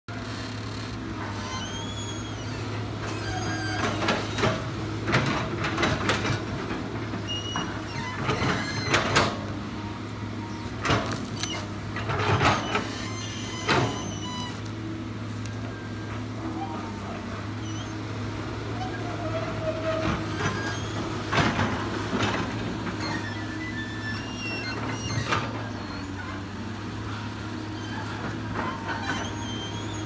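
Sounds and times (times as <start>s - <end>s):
excavator diesel engine humming: 0.1s - 30.0s.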